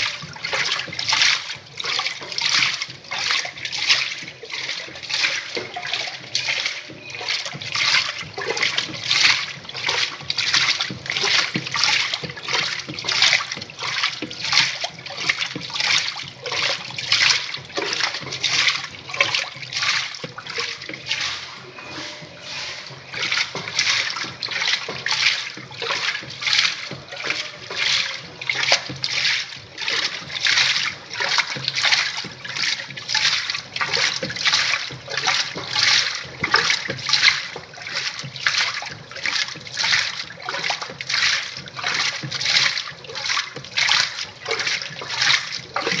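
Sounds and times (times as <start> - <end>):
washing machine water sloshing: 0.0 - 46.0.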